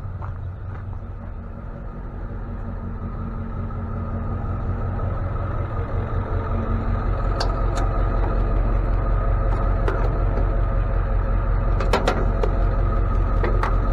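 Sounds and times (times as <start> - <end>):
truck engine humming: 0.0 - 13.9.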